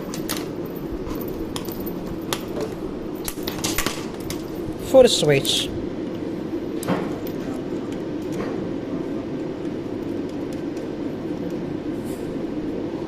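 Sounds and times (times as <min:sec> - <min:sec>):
equipment humming: 0:00.0 - 0:13.0.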